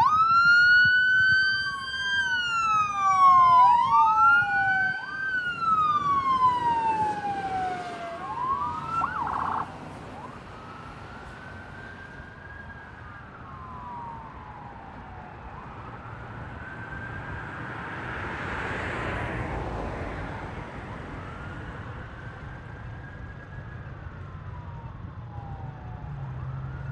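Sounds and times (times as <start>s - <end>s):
road noise: 0.0s - 26.9s
sirens wailing: 0.0s - 26.9s.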